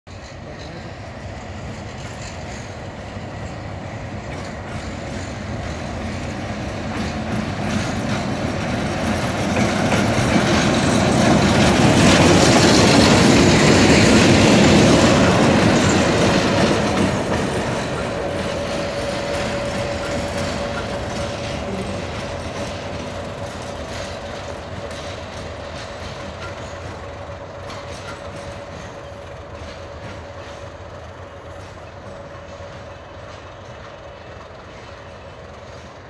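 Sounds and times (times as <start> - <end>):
diesel locomotive engine drone: 0.1 - 36.0
train wheels on rails: 0.1 - 36.0.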